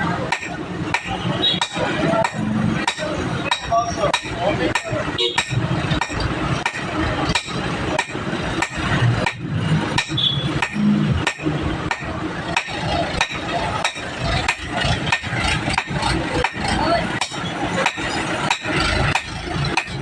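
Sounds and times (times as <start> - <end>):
hammer striking metal: 0.3 - 20.0.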